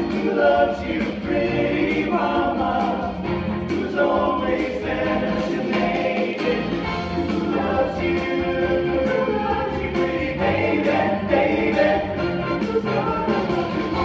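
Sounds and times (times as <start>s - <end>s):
male choir singing: 0.0s - 14.0s.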